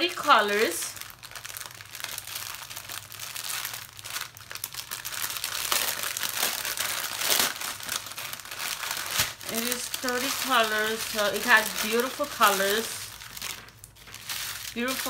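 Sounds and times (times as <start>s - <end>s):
plastic packaging crinkling: 0.1s - 15.0s.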